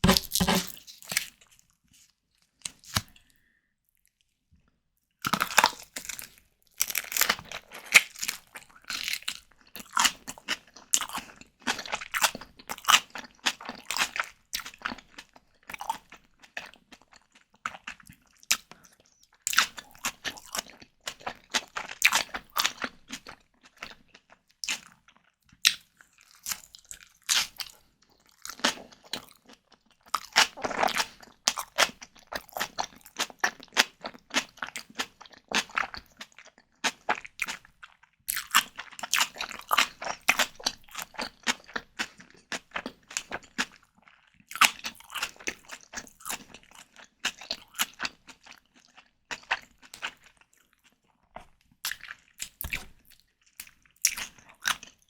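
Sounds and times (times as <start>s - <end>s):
person chewing and crunching: 0.0s - 4.2s, 5.2s - 55.0s.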